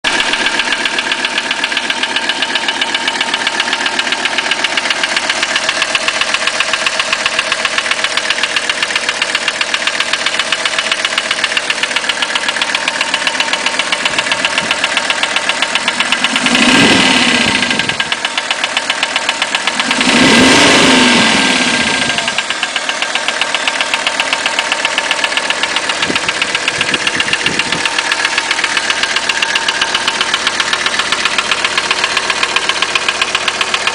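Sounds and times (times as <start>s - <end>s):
diesel engine idling with knock: 0.0s - 33.9s
engine revving: 0.1s - 33.9s.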